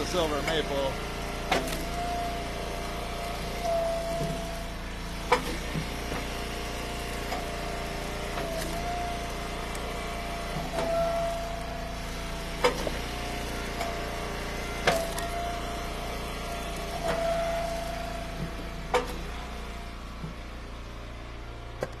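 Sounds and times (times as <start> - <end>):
hydraulic wood splitter whining: 0.0 - 22.0.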